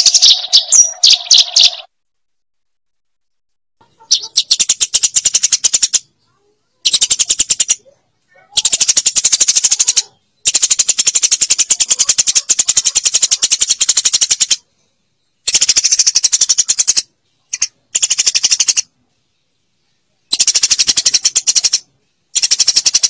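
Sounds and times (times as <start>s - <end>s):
sparrow chattering: 0.0s - 1.9s, 3.8s - 14.7s, 15.4s - 19.0s, 20.2s - 23.0s.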